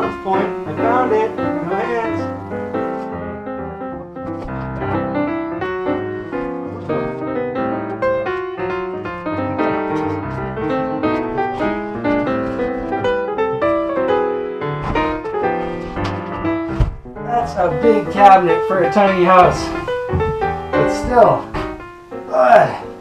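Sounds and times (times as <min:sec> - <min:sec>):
piano music with bass line: 0:00.0 - 0:23.0.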